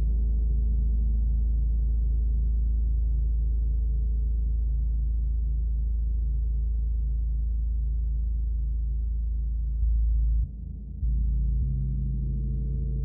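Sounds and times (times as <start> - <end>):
pulsing low tone: 0.0 - 13.0.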